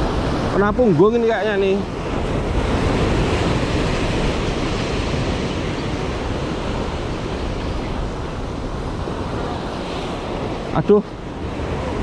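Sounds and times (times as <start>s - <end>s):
ocean surf washing against breakwater: 0.0s - 12.0s
wind buffeting microphone: 0.0s - 12.0s.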